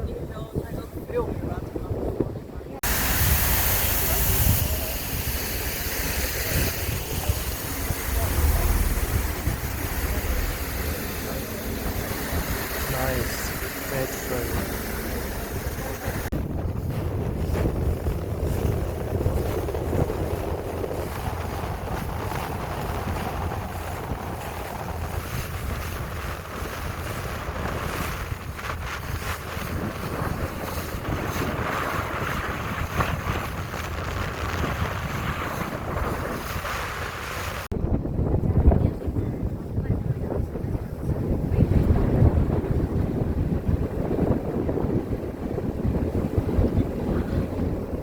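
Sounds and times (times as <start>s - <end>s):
boat low rumble: 0.0s - 48.0s
wind buffeting microphone: 0.0s - 48.0s.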